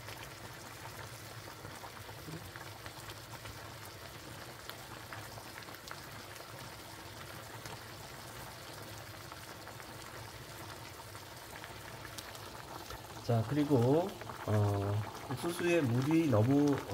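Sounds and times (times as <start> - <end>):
corn simmering with small pops: 0.0 - 16.9.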